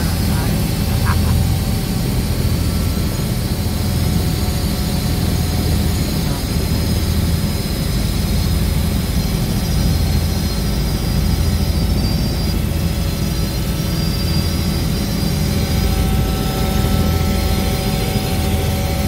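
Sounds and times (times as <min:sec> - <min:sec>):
helicopter cabin drone: 0:00.0 - 0:19.0.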